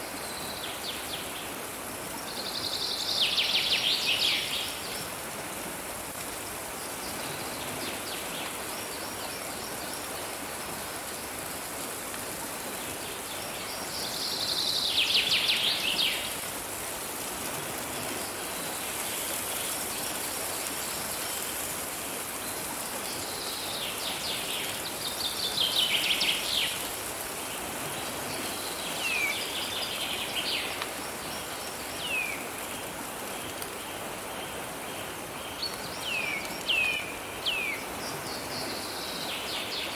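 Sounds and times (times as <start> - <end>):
hiss of running water: 0.0 - 39.9.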